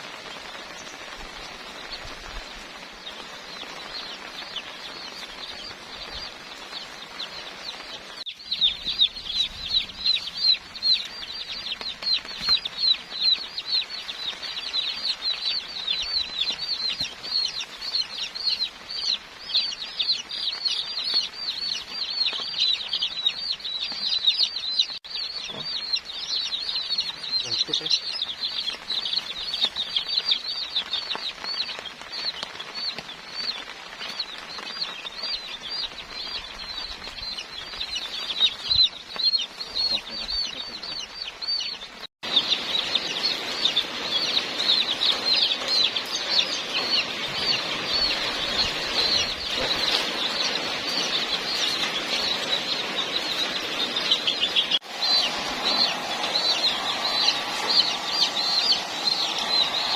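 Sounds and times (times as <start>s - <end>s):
chicks peeping: 0.2s - 59.9s.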